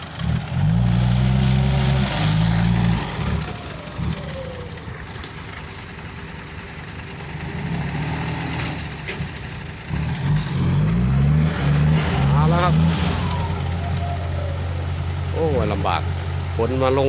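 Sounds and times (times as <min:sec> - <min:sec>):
diesel truck engine labouring: 0:00.0 - 0:17.0.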